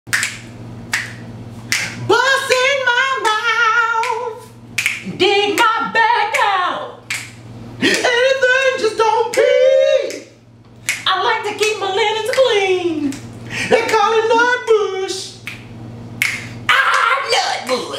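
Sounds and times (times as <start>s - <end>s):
high singing voices: 0.1s - 15.6s, 16.2s - 17.9s.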